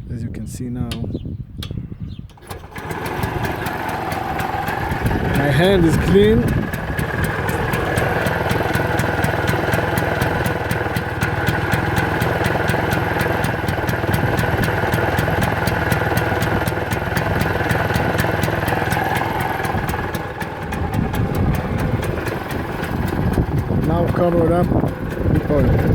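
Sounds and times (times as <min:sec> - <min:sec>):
small engine idling: 0:02.4 - 0:25.9.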